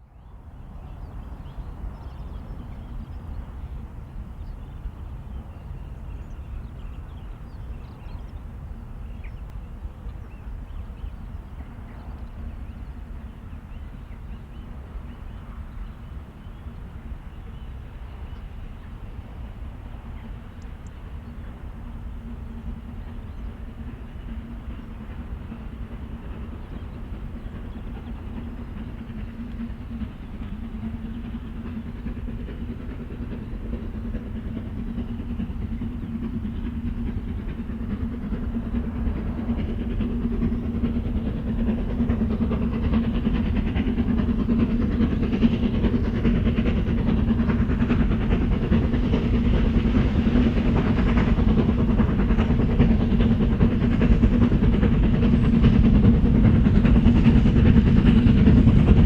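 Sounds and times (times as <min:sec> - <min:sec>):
steam train rumbling: 0:00.0 - 0:59.0.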